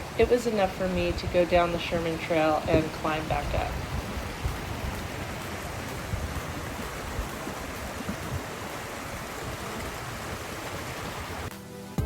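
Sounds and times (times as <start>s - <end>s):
steady rushing wind or water: 0.0s - 12.0s.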